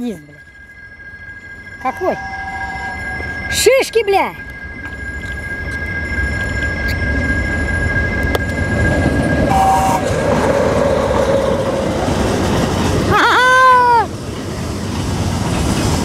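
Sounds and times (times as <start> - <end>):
freight train rumbling past: 0.8 - 16.0.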